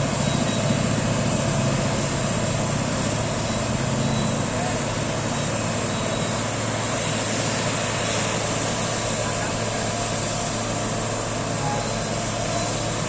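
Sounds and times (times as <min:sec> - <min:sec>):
heavy engine humming: 0:00.0 - 0:13.0.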